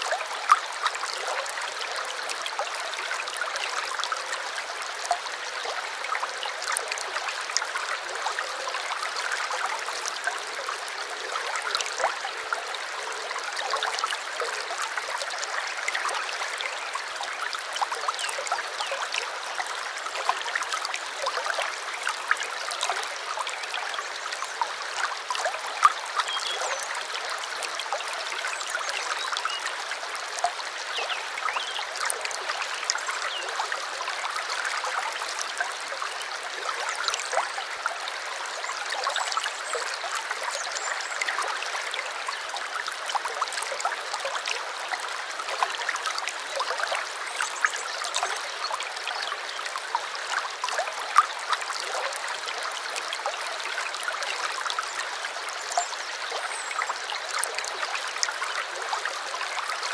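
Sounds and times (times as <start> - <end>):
small brook trickling: 0.0 - 59.9.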